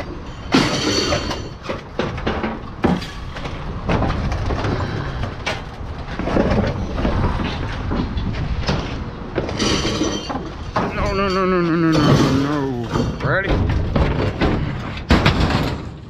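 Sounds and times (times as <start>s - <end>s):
scrap metal clanking and scraping: 0.0s - 16.0s.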